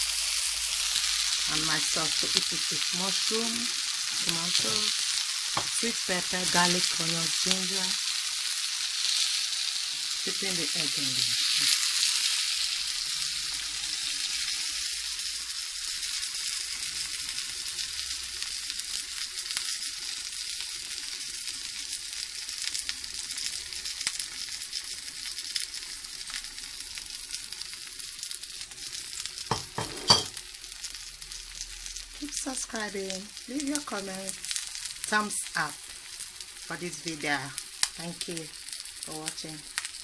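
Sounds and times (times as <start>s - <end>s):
omelette sizzling in a pan: 0.0s - 40.0s.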